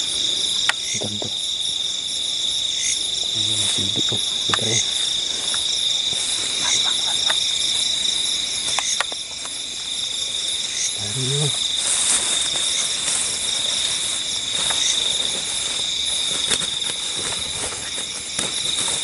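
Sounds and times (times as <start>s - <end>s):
crickets chirping: 0.0s - 19.0s
pulsing insect trill: 0.0s - 19.0s.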